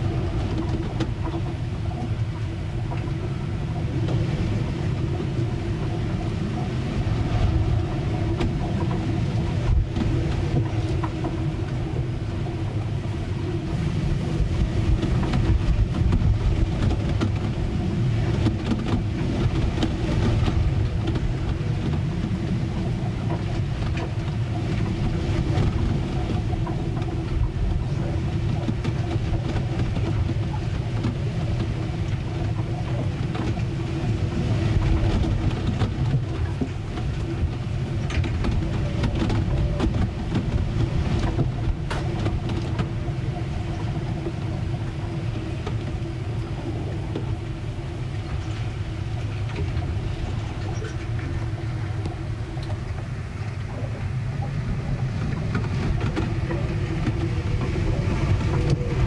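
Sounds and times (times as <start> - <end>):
ship knocks and creaks: 0.0 - 59.0
steady hum: 0.0 - 59.0
wind and water against hull: 0.0 - 59.0.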